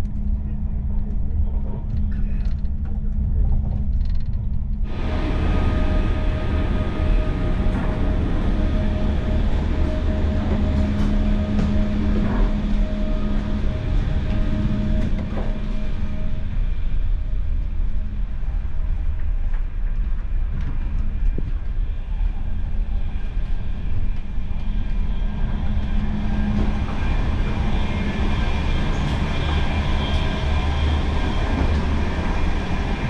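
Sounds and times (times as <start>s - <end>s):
constant hum: 0.0s - 33.0s
train wheels rumbling on track: 0.0s - 33.0s.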